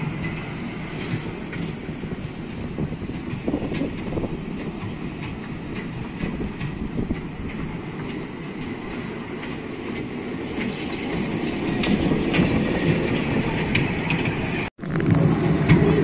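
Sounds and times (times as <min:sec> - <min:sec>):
small train running on track: 0:00.0 - 0:16.0
wheels clicking over rail joints: 0:00.0 - 0:16.0.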